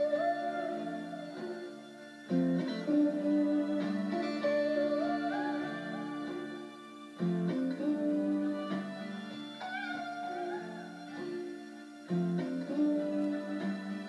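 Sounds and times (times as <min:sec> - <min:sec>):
guitar playing: 0:00.0 - 0:14.0.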